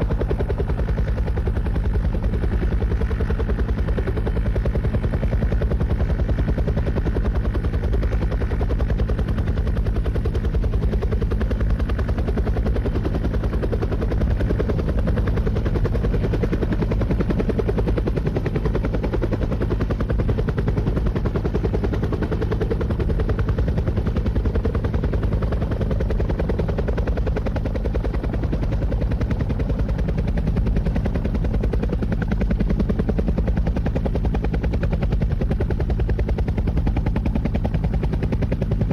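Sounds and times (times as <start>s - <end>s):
helicopter engine hum: 0.0s - 38.9s
helicopter rotor beating: 0.0s - 38.9s.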